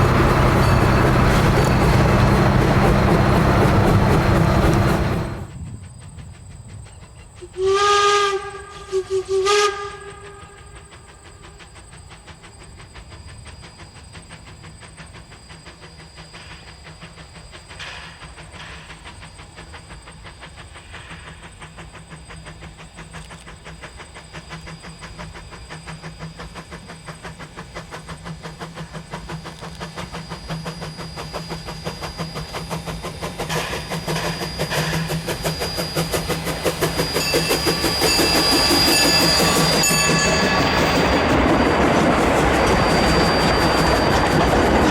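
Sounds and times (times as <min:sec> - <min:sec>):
steam locomotive beats: 0:00.0 - 0:44.9.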